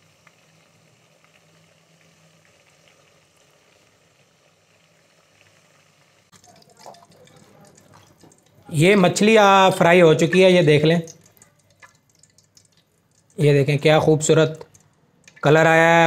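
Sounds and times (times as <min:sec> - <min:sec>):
fish deep-frying with bubbling: 0:00.0 - 0:16.0.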